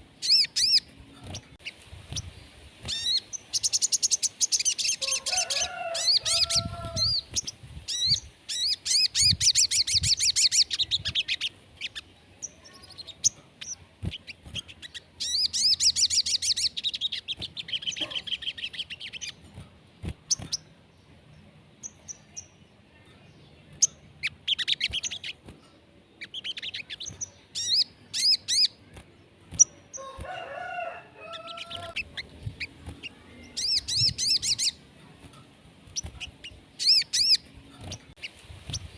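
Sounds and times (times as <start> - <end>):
bird chirps: 0.2 - 30.2, 31.2 - 34.8, 35.9 - 38.9
bird trilling song: 0.2 - 38.9.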